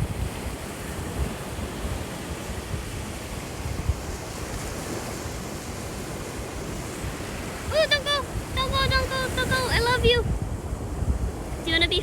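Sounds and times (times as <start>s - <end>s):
ocean surf washing on a beach: 0.0s - 12.0s
wind buffeting the microphone: 0.0s - 12.0s.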